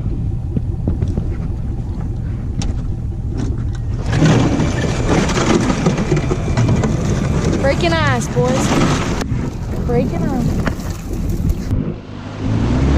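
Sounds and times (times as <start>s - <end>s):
boat motor rumbling: 0.0s - 12.9s.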